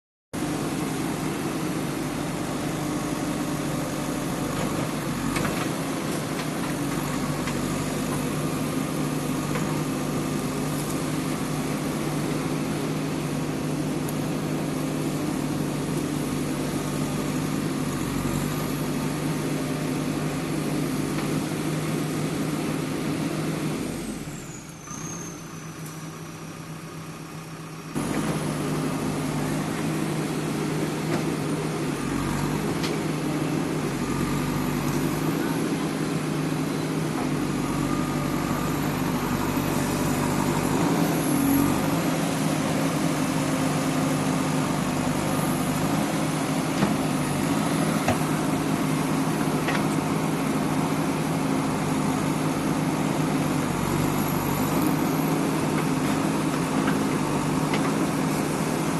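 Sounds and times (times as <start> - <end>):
diesel engine running: 0.4 - 58.9.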